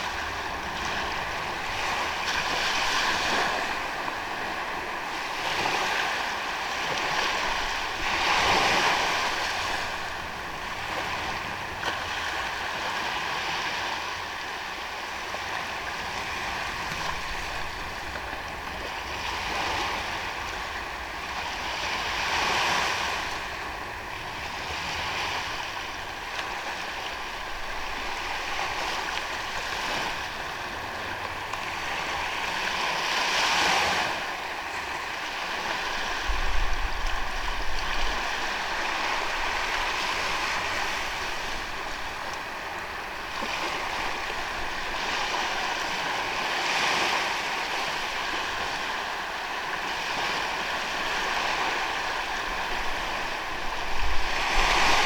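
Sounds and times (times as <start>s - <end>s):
sea waves washing onto beach: 0.0s - 55.0s
wind noise on microphone: 0.0s - 55.0s.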